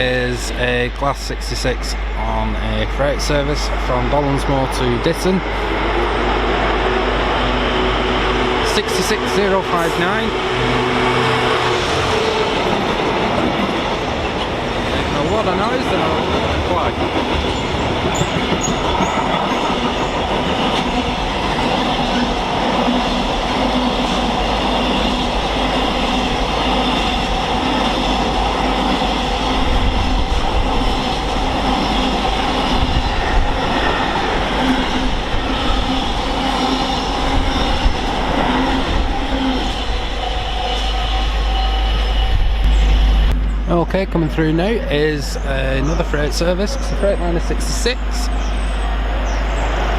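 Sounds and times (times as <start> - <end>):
freight train wagons rumbling: 0.0 - 49.9.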